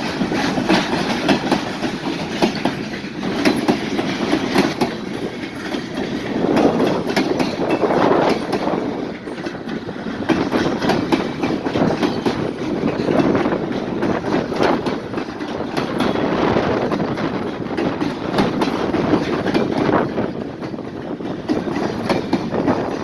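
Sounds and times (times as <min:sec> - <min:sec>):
freight train rumbling past: 0:00.0 - 0:23.0
wheels clacking over rail joints: 0:00.0 - 0:23.0.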